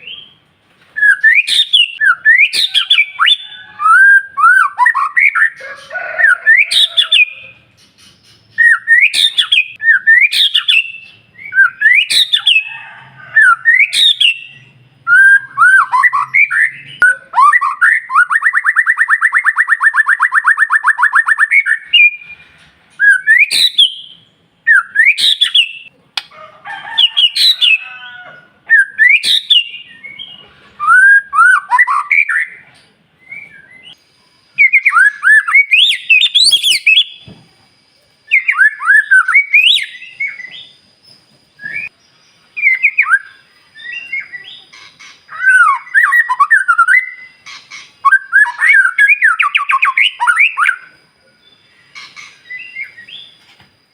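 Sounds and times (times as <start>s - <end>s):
bird singing whistles and chirps: 1.0s - 5.6s, 6.2s - 12.7s, 13.4s - 25.9s, 28.7s - 32.6s, 33.2s - 37.4s, 38.2s - 53.9s.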